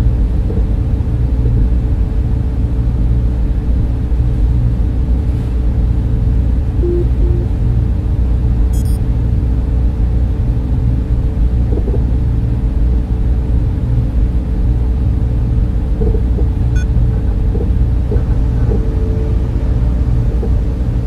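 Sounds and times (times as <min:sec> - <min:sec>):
cooling fans running: 0:00.0 - 0:21.0.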